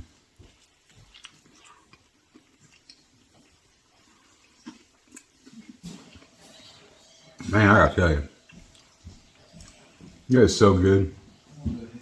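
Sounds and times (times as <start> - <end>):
wet chewing: 0.0 - 10.3.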